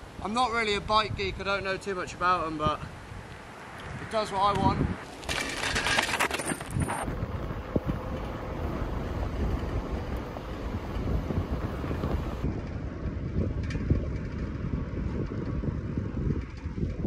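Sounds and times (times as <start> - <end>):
wind buffeting microphone: 0.0 - 5.2, 6.6 - 17.0.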